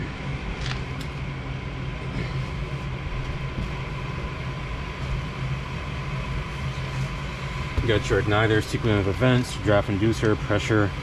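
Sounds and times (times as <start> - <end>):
faint steady whine: 0.0 - 11.0
furnace motor humming: 0.0 - 11.0.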